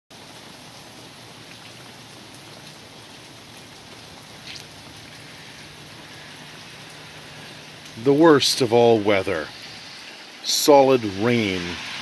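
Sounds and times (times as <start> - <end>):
wet snow falling hiss: 2.0 - 12.0.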